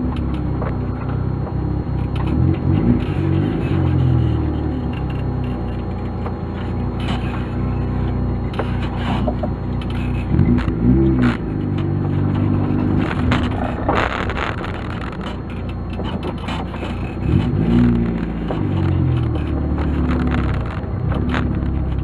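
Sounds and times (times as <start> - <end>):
vehicle engine revving: 0.0 - 22.0
light clicks and scrapes: 2.0 - 22.0.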